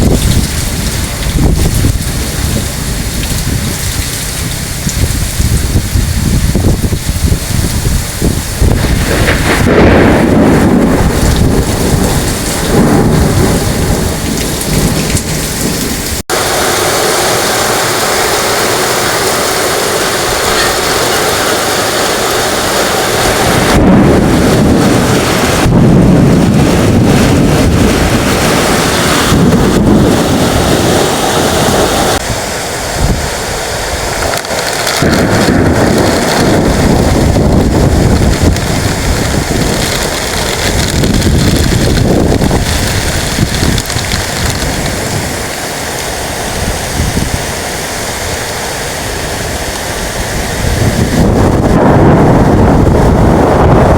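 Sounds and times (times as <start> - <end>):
heavy rain pouring: 0.0 - 53.9
thunder rumbling: 0.0 - 53.9.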